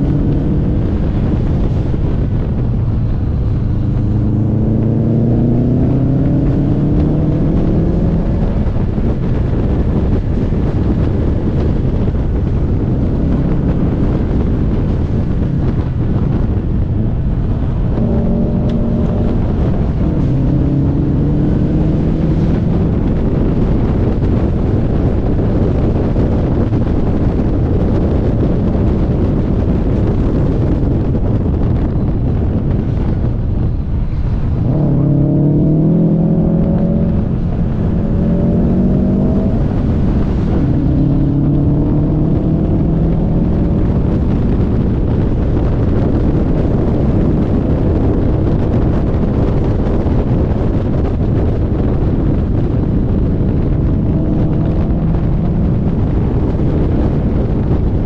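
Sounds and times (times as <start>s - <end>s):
car engine under load: 0.0s - 58.0s
wind and road roar: 0.0s - 58.0s.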